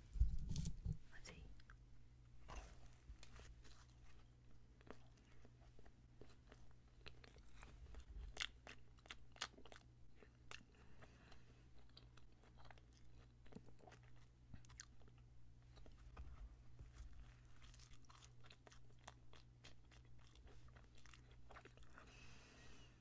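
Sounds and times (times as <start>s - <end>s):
close chewing with mouth clicks: 2.4s - 22.3s.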